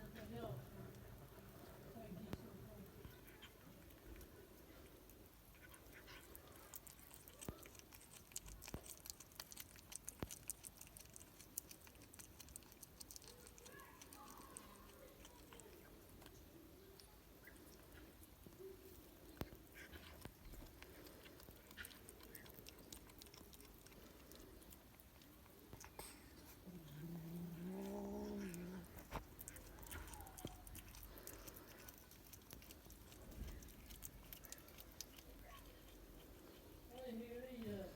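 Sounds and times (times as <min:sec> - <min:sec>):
cat chewing meat: 0:00.0 - 0:37.9
faint small noises: 0:00.0 - 0:37.9.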